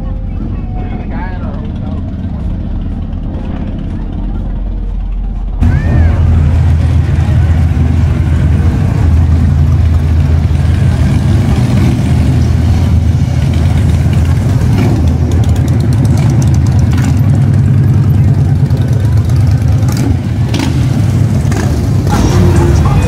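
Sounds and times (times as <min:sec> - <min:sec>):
motorcycles riding past: 0:00.0 - 0:23.0.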